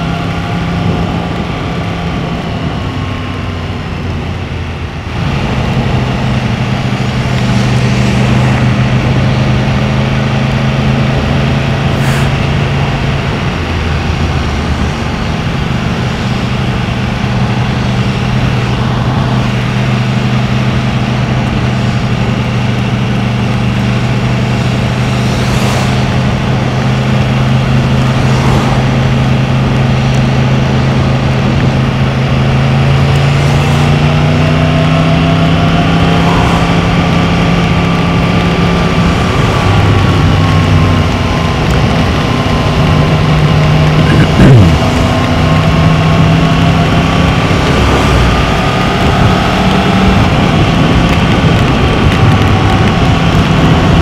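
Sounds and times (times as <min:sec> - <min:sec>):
heavy wind rush: 0:00.0 - 0:54.0
motorcycle engine cruising: 0:00.0 - 0:54.0.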